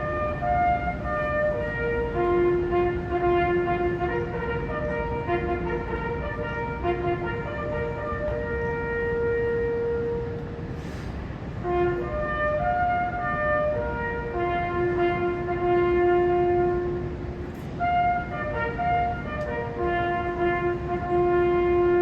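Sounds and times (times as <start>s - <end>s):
bugle call: 0.0s - 10.9s, 11.6s - 22.0s.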